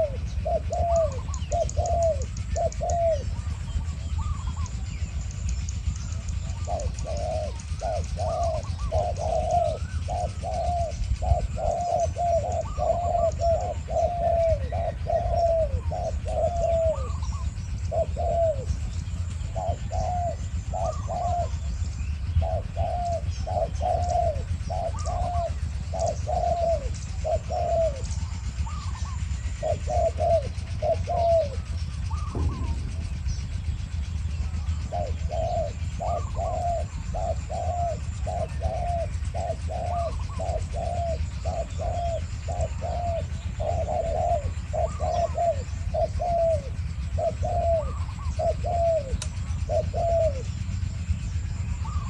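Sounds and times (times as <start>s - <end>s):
doves cooing: 0.0s - 52.0s.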